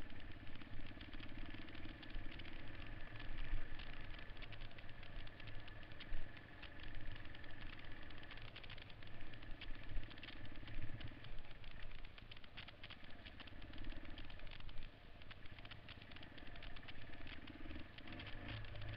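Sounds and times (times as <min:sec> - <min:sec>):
dirt bike engine running: 0:00.0 - 0:18.9.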